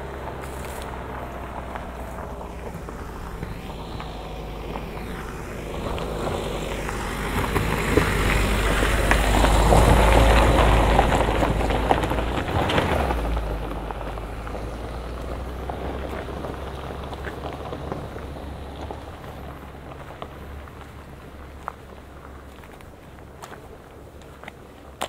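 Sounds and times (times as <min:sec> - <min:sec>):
vehicle passing by: 0:00.0 - 0:22.7.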